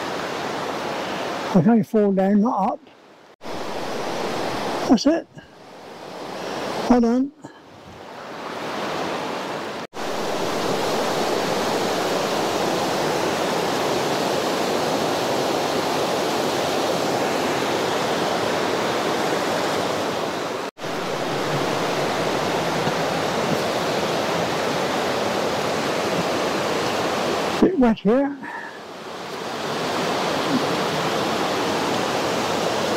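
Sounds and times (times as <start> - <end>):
river rushing over rocks: 0.0 - 1.6, 3.4 - 7.0, 8.1 - 32.9.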